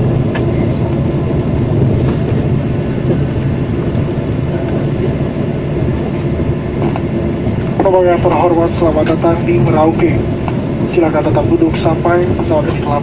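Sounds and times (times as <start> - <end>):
jet engine noise: 0.0 - 13.0
runway rumble: 0.0 - 13.0.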